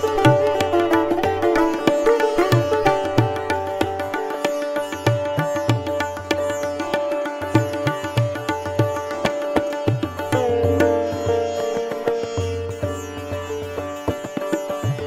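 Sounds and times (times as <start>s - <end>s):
sitar plucked strokes: 0.0s - 15.0s.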